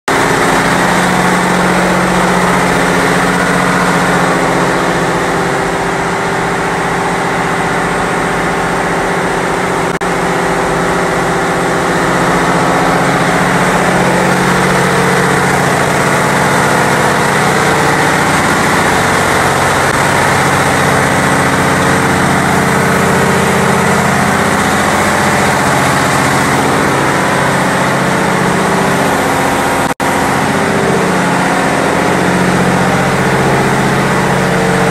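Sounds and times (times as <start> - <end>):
diesel engine room machinery din: 0.1 - 34.9.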